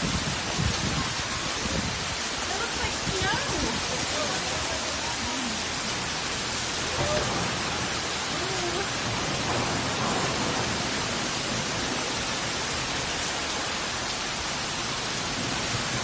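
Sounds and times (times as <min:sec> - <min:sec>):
hail and rain falling: 0:00.0 - 0:16.0.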